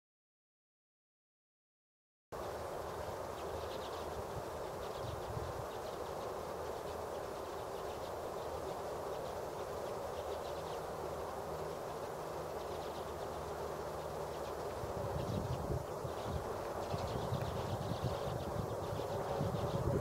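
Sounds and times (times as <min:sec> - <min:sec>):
birds twittering: 0:02.4 - 0:20.0.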